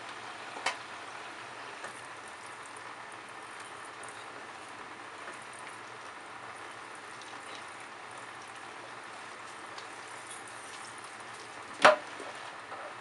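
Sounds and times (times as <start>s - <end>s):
faucet running and splashing: 1.5s - 12.6s.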